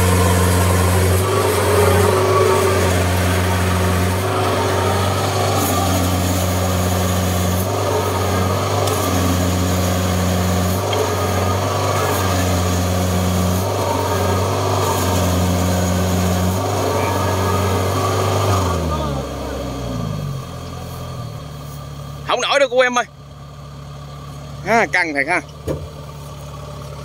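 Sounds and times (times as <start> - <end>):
diesel engine running hard: 0.0 - 27.0
higher engine tone: 0.0 - 27.0.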